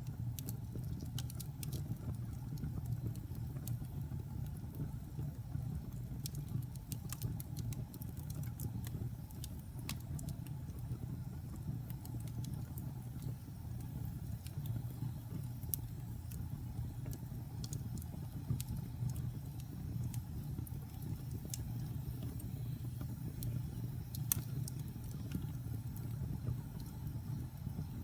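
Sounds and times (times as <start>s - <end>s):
wood fire crackles and pops: 0.0s - 28.0s.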